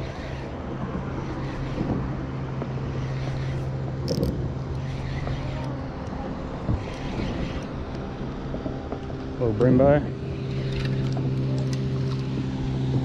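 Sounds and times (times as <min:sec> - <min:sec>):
electric motor humming: 0:00.0 - 0:08.4, 0:10.1 - 0:13.0
wind noise on microphone: 0:00.0 - 0:09.4, 0:10.2 - 0:13.0.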